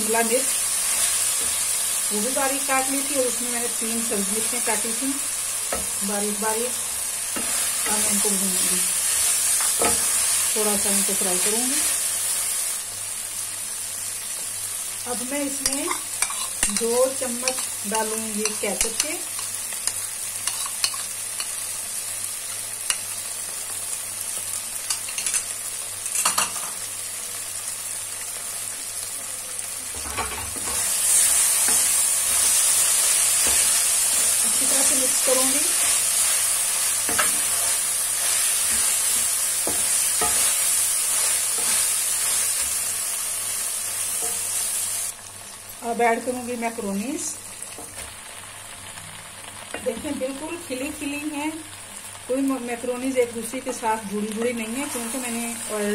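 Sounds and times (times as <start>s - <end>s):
food sizzling in a pan: 0.0s - 55.9s.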